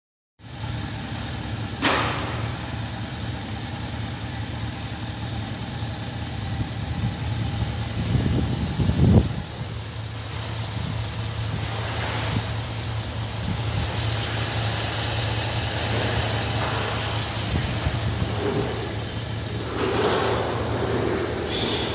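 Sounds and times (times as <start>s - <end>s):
car engine idling: 0.4s - 21.9s.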